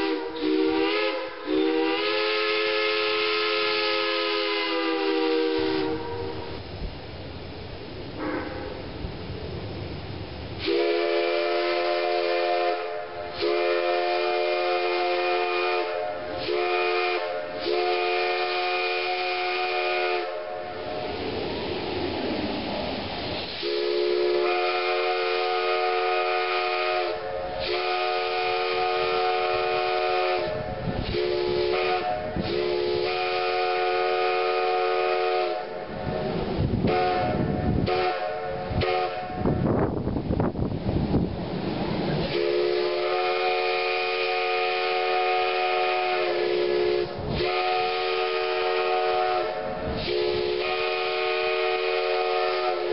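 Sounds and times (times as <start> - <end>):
steam locomotive whistle blasts: 0.0 - 6.6, 8.2 - 8.8, 10.6 - 21.2, 23.4 - 39.7, 42.1 - 52.9
steam hissing: 0.0 - 52.9.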